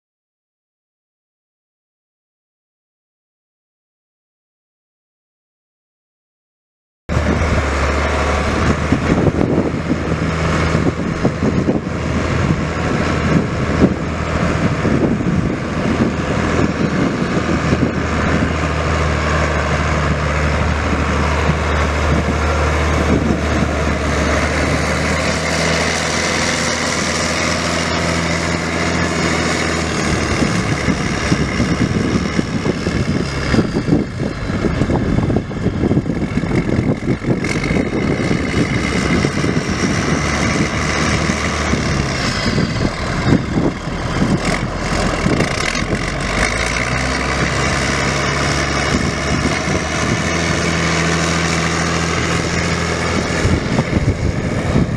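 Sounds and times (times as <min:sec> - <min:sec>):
diesel tractor engine idling: 0:07.2 - 0:54.9.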